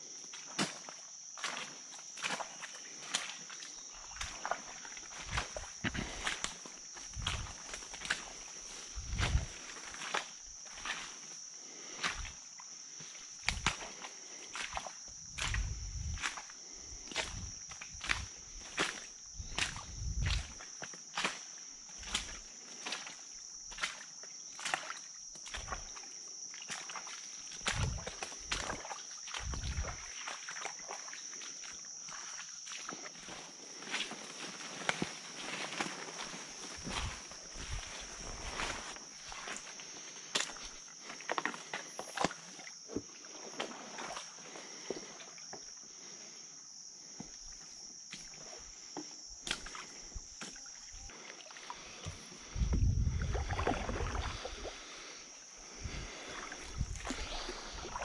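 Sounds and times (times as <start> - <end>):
high-pitched insect drone: 0.0 - 58.0
footsteps splashing in water and mud: 0.3 - 45.7, 49.4 - 55.0, 55.6 - 58.0.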